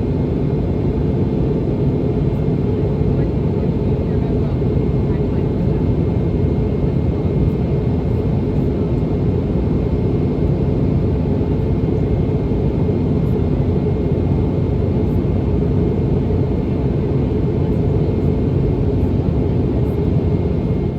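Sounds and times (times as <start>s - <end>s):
airplane cabin roar: 0.0s - 20.9s.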